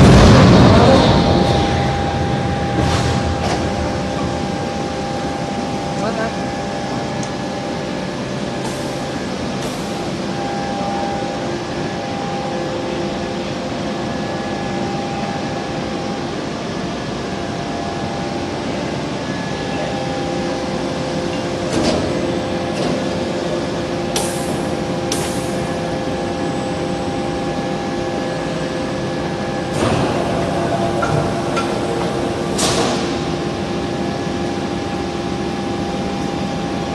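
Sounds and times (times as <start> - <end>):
machinery hum with steady tones: 0.0 - 36.9.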